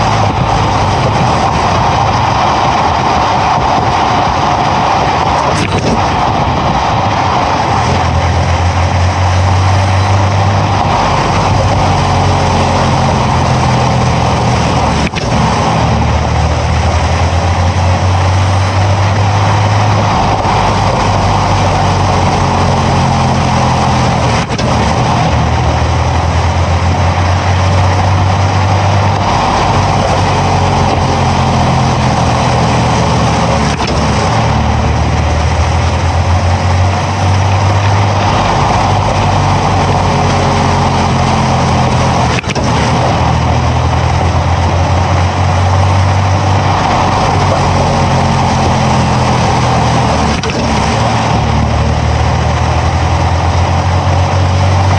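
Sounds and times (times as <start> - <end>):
low exhaust hum: 0.0 - 54.9
tyre and air roar: 0.0 - 54.9.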